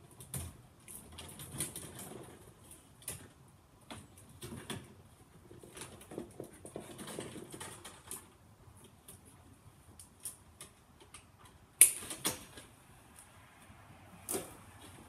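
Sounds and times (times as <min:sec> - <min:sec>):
electrical wires clicking and scraping: 0:00.0 - 0:15.0.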